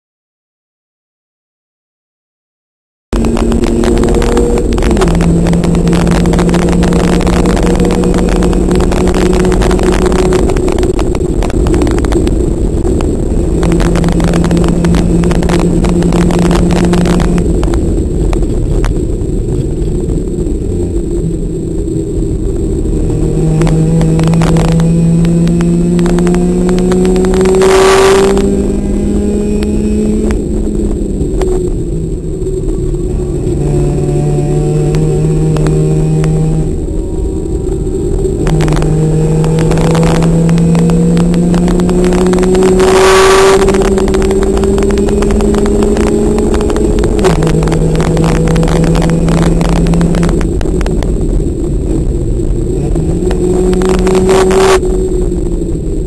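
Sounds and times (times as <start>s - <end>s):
car engine accelerating: 3.1s - 56.0s
road and wind noise: 3.1s - 56.0s.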